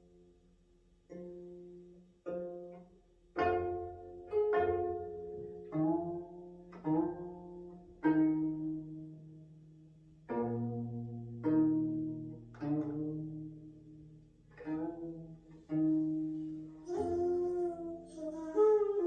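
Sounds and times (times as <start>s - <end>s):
plucked zither notes: 1.0s - 19.0s.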